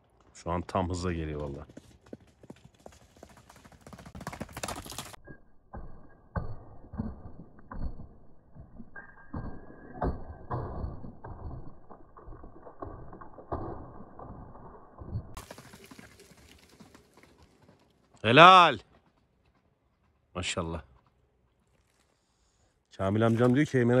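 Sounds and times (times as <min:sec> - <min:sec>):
galloping hooves on dirt: 0:00.0 - 0:05.2, 0:05.8 - 0:22.1.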